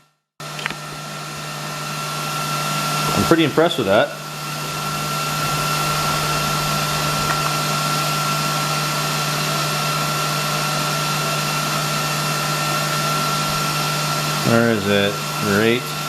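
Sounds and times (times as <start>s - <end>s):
fan whirring: 0.4s - 16.0s.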